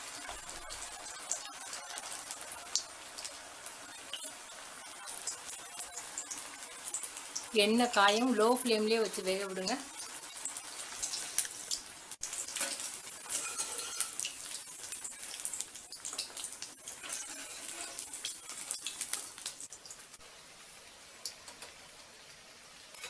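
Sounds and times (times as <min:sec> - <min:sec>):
food sizzling and crackling in oil: 0:00.0 - 0:23.0.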